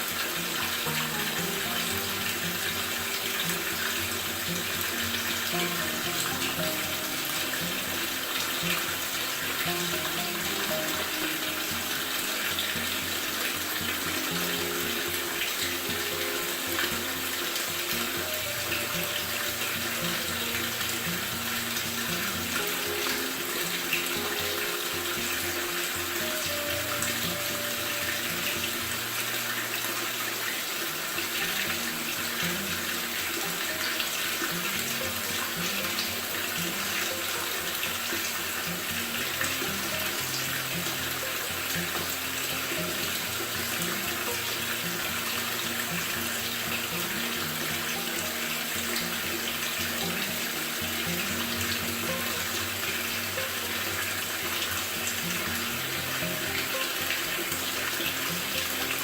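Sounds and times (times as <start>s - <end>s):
music with held notes: 0.0s - 59.0s
washing machine filling with water: 0.0s - 59.0s.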